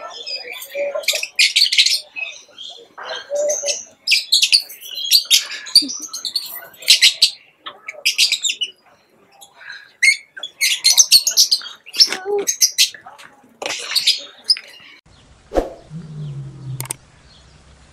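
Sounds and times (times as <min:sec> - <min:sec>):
lovebirds chattering: 0:00.0 - 0:15.0.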